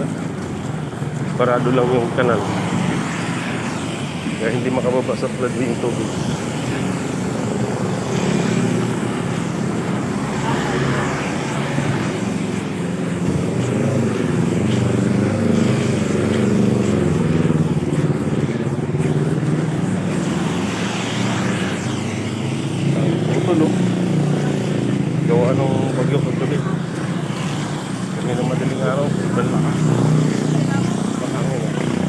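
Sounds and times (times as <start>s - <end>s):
motorcycle engine running: 0.0s - 32.0s
road noise: 0.0s - 32.0s.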